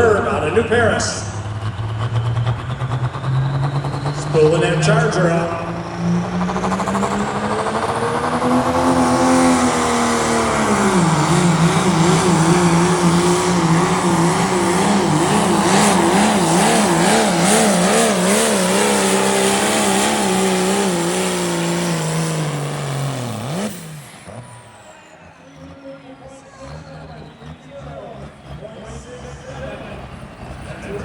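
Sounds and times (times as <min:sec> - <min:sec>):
diesel truck engine at full throttle: 0:00.0 - 0:31.0.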